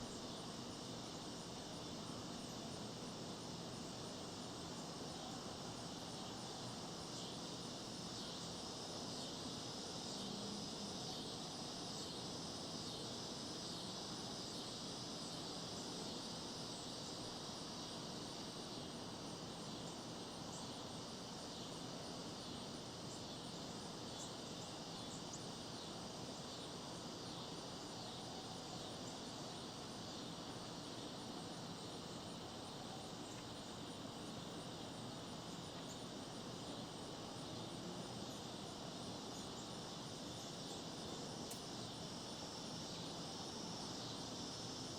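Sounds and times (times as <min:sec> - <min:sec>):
insect chorus chirring: 0:00.0 - 0:44.9.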